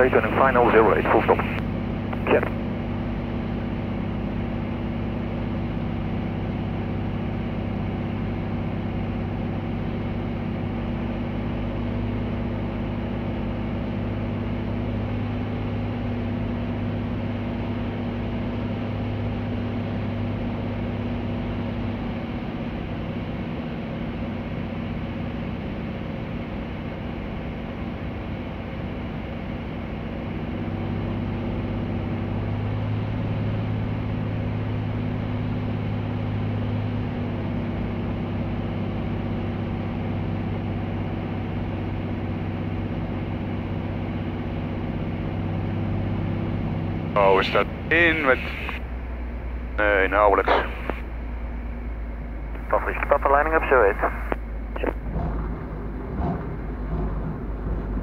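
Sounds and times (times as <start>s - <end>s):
aircraft engine drone in cockpit: 0.0s - 58.0s.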